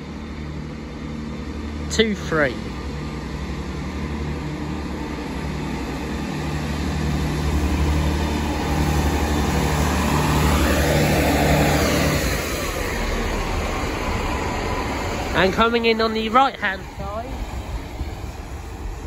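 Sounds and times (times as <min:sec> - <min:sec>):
diesel train engines humming: 0:00.0 - 0:19.0.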